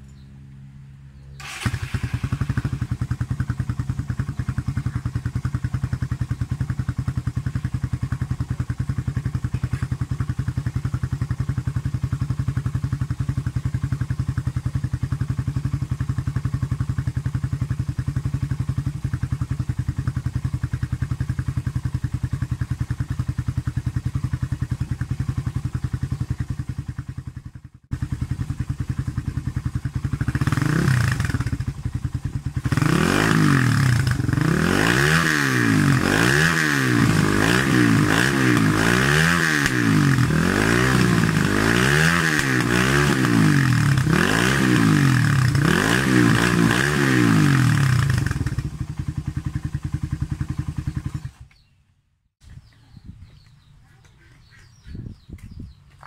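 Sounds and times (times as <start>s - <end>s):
motorcycle engine revving: 1.2s - 51.7s
motorcycle engine idling: 1.2s - 56.0s.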